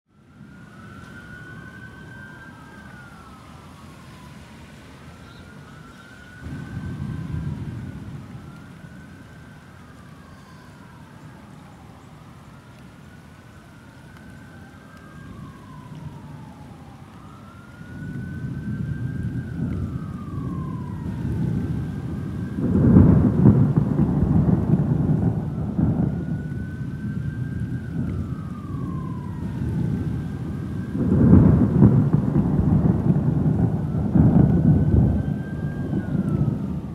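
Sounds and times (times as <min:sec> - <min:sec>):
emergency siren wailing: 0:00.1 - 0:36.9
thunder rumbling: 0:00.3 - 0:36.9.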